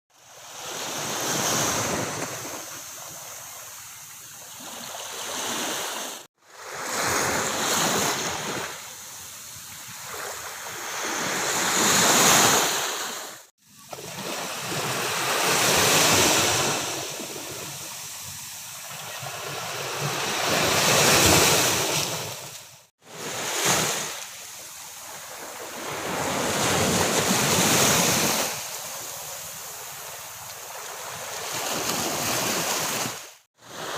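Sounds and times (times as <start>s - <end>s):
ocean waves breaking on beach: 0.1s - 33.9s.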